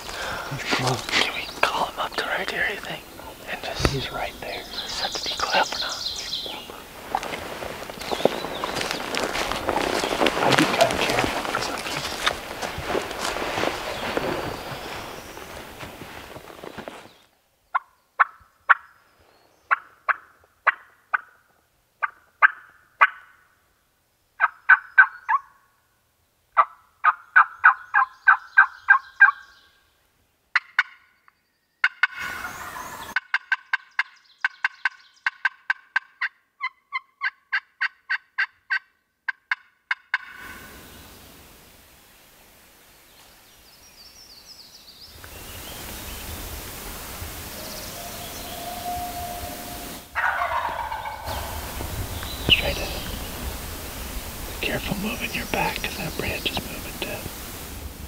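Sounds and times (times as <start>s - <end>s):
wild turkey calling: 0.0s - 15.5s, 17.7s - 19.0s, 19.7s - 23.5s, 24.4s - 25.8s, 26.6s - 29.9s, 30.5s - 41.2s, 45.1s - 57.7s.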